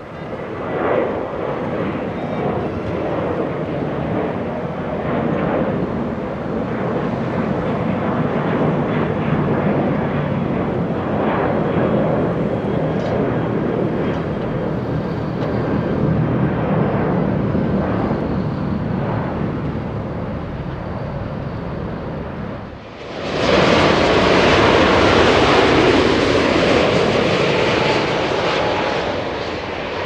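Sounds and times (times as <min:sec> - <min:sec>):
jet engine rushing: 0:00.0 - 0:30.0.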